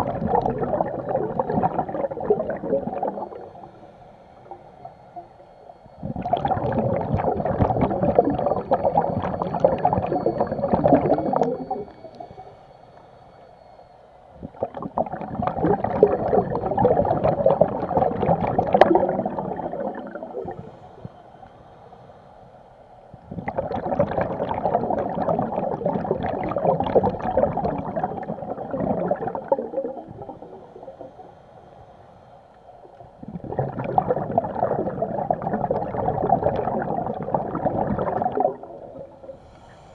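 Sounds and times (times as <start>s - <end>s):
scuba bubbles gurgling: 0.0s - 13.7s, 14.3s - 21.6s, 23.0s - 31.9s, 32.7s - 39.9s.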